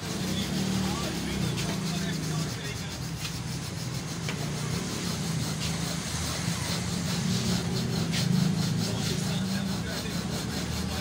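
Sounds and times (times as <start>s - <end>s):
hands rubbing foam pad: 0.0s - 11.0s.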